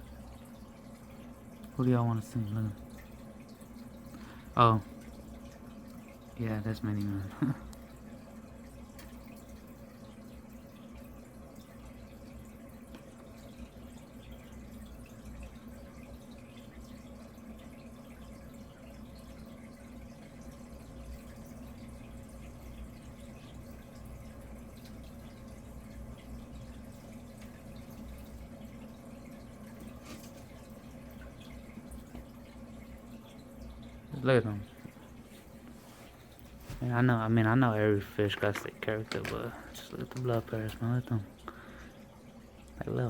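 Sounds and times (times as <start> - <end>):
low equipment hum: 0.0 - 43.0
water trickling and dripping: 0.0 - 43.0.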